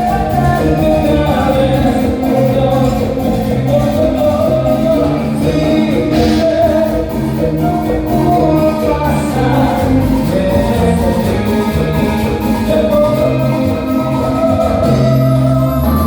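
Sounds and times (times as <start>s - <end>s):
live cumbia band: 0.0s - 16.0s.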